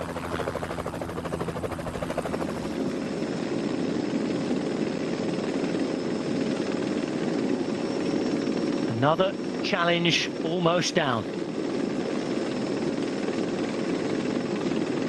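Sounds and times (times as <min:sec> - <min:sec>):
helicopter rotor chopping: 0:00.0 - 0:15.0.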